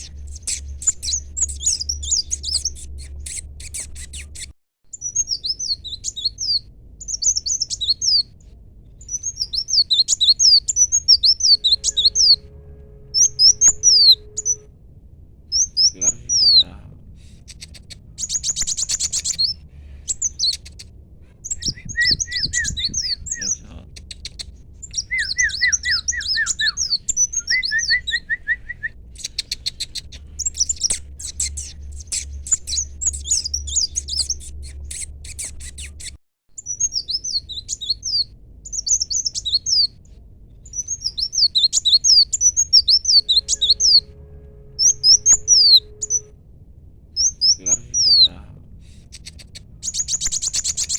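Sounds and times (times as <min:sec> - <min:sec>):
songbird twittering: 0:00.0 - 0:08.3, 0:09.0 - 0:12.5, 0:13.2 - 0:14.7, 0:15.5 - 0:16.8, 0:17.4 - 0:40.0, 0:40.6 - 0:44.1, 0:44.8 - 0:46.3, 0:47.2 - 0:48.4, 0:49.1 - 0:50.9
low steady hum: 0:00.0 - 0:50.9.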